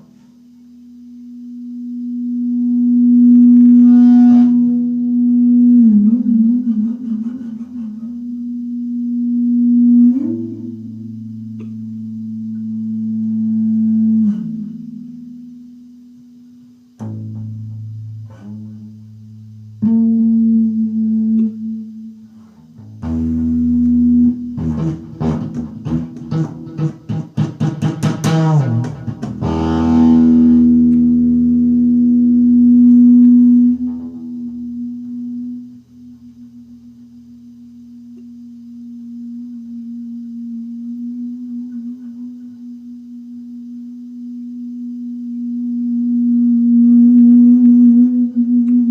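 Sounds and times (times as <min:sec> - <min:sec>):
distorted electric guitar feedback: 0:00.0 - 0:48.9.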